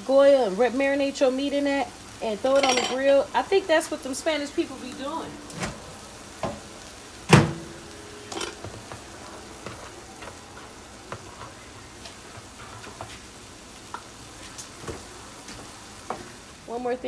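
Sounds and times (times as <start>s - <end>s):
chicken sizzling in a wok: 0.0s - 17.0s.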